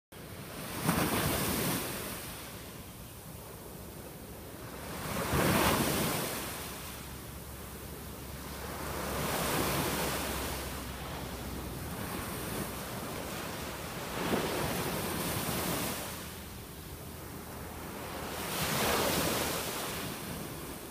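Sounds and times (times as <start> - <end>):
small waves washing up a beach: 0.2 - 20.9.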